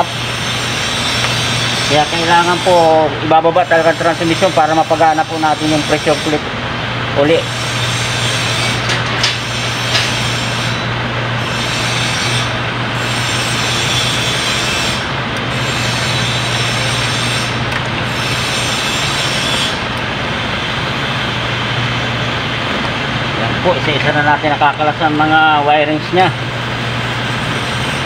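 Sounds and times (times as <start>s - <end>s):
steady machine drone: 0.0s - 28.0s.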